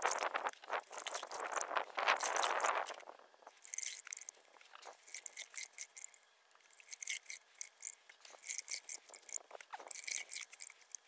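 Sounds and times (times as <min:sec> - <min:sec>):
wet cloth squelching: 0:00.0 - 0:11.0.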